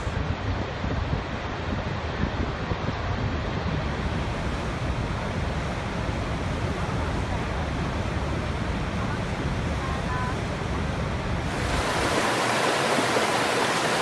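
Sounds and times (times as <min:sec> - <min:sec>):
steady rushing rumble: 0:00.0 - 0:14.0.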